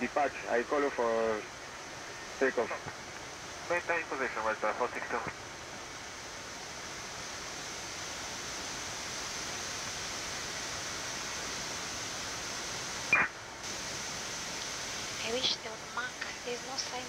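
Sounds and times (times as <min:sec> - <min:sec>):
air-conditioning airflow hiss: 0:00.0 - 0:17.0.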